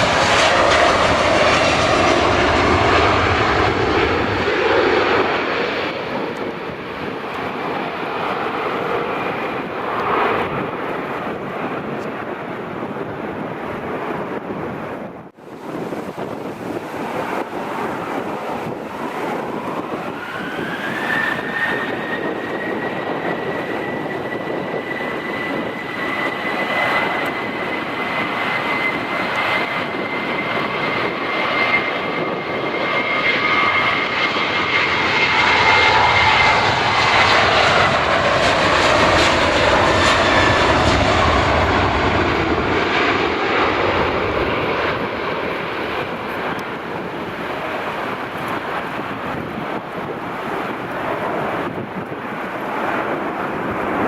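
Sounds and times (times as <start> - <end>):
jet engines passing by: 0.0 - 54.0.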